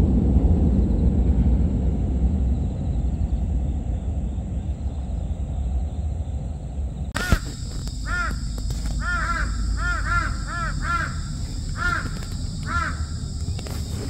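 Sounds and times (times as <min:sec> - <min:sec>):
airplane engine rumble overhead: 0:00.0 - 0:14.0.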